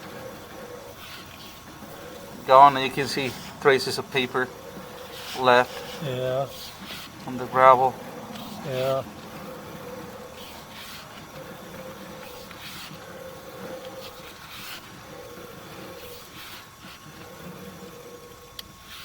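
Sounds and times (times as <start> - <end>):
faint mechanical hum: 0.0 - 19.0
whining tone: 0.0 - 19.0.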